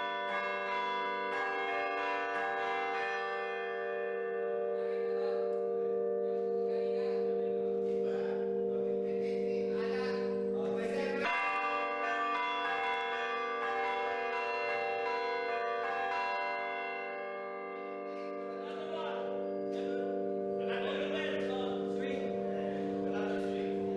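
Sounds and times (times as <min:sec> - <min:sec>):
church bells ringing: 0:00.0 - 0:23.9.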